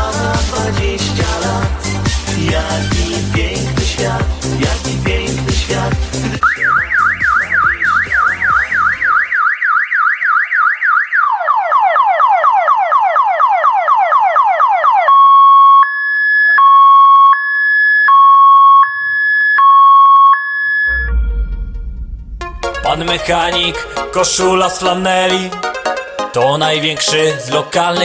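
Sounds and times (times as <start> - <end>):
electronic siren cycling patterns: 0.8 - 3.6, 6.4 - 26.4.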